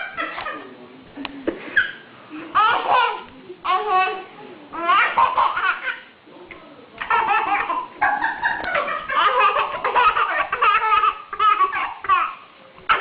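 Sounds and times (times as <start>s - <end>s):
baby laughing: 0.0s - 0.7s, 1.7s - 6.1s, 7.0s - 13.0s.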